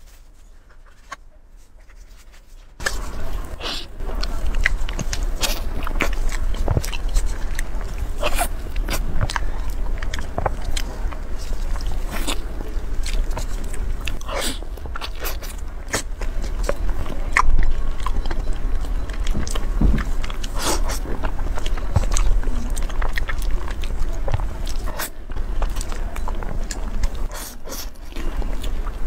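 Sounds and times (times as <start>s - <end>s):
chewing and lip smacks: 2.8s - 29.0s.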